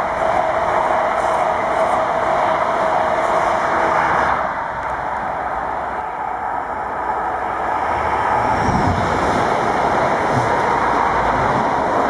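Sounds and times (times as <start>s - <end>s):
high-speed train passing: 0.0s - 12.0s
train wheels rumbling on rails: 0.0s - 12.0s.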